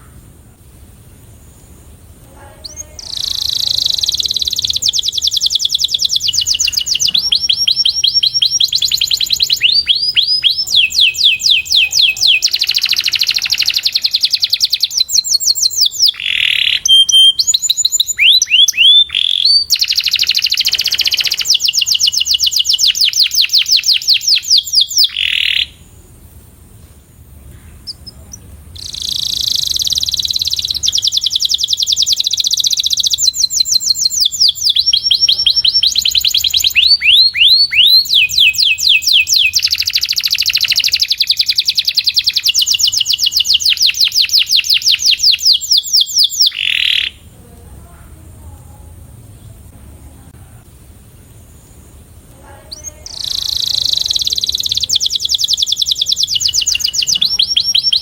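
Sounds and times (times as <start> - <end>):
canary singing trills: 1.4 - 26.0, 27.5 - 47.4, 51.1 - 58.0.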